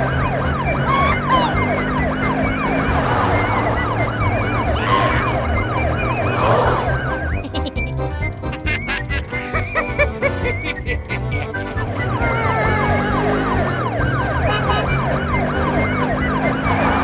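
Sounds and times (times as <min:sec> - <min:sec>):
background music: 0:00.0 - 0:17.0
police siren yelping: 0:00.0 - 0:17.0
quick clicking beat: 0:00.0 - 0:17.0.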